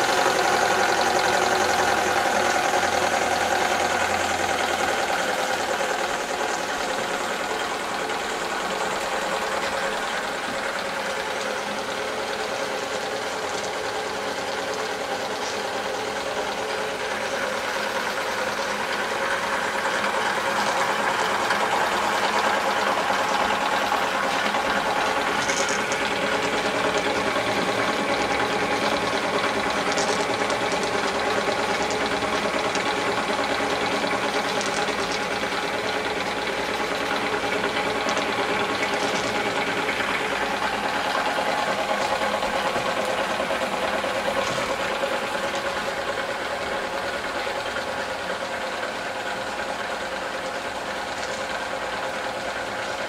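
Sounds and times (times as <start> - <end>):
model steam engine running: 0.0 - 53.0.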